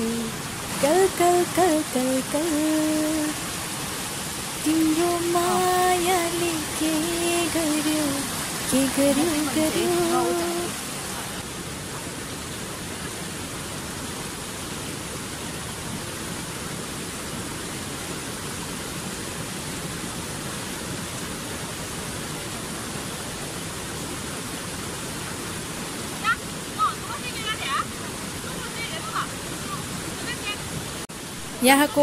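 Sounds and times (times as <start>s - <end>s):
stream splashing over rocks: 0.0s - 32.0s.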